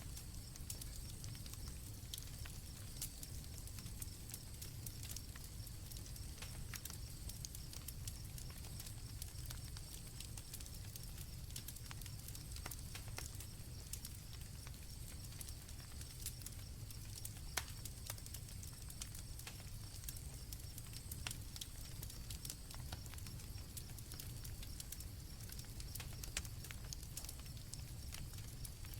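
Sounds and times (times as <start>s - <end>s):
campfire crackling: 0.0s - 28.9s
sharp fire pops: 0.1s - 28.9s.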